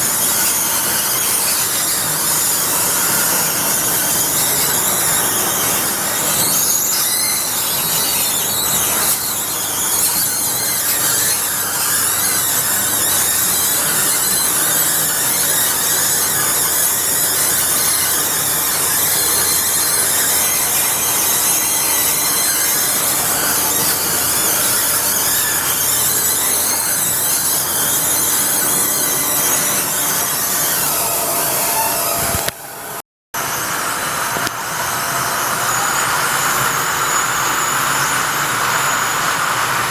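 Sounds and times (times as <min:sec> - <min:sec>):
stair lift squealing and squeaking: 0:00.0 - 0:39.9.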